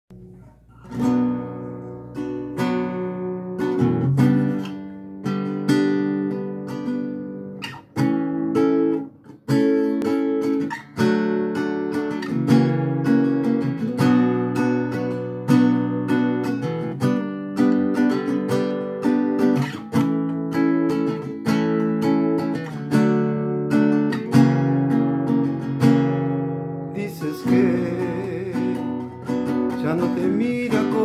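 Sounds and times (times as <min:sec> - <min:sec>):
acoustic guitar strumming: 0:00.1 - 0:31.0.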